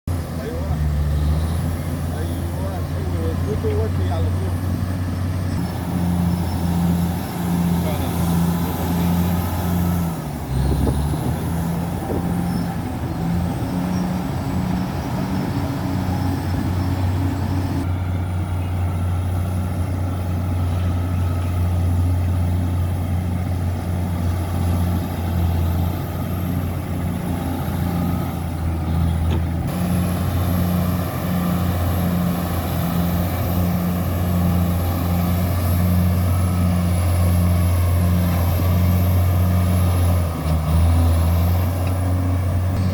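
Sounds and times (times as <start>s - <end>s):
bulldozer diesel engine droning: 0.1s - 42.9s.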